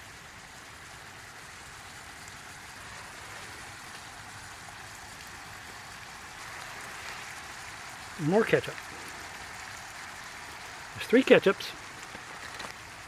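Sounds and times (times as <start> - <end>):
beef and onions sizzling in a pan: 0.0 - 13.0.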